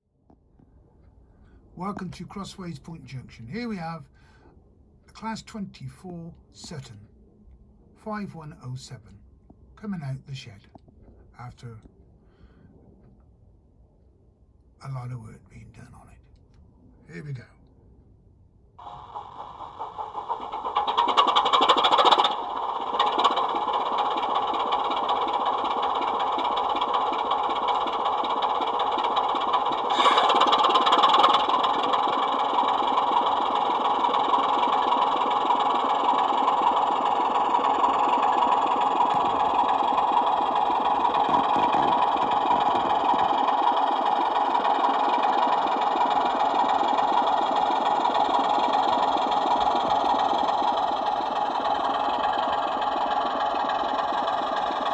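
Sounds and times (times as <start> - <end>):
model train diesel engine sound: 1.4 - 7.1, 8.0 - 12.6, 18.8 - 54.9.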